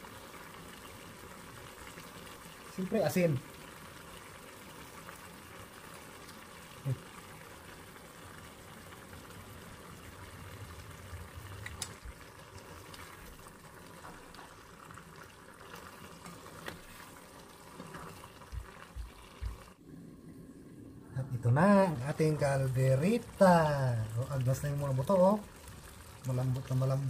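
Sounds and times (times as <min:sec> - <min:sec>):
stew bubbling in a pan: 0:00.0 - 0:27.0.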